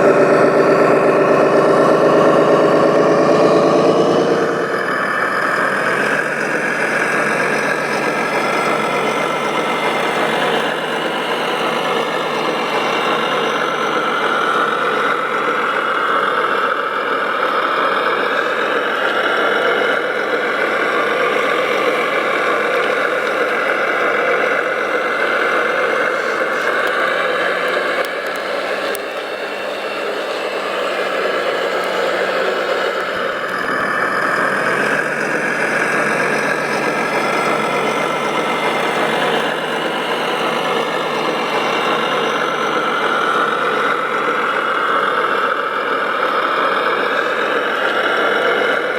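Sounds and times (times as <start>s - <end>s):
model machinery motor drone: 0.0s - 48.9s.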